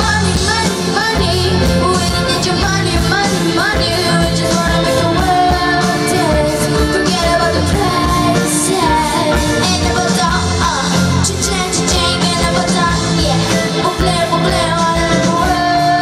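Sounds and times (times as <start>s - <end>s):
person singing: 0.0s - 16.0s
pop-rock band playing: 0.0s - 16.0s.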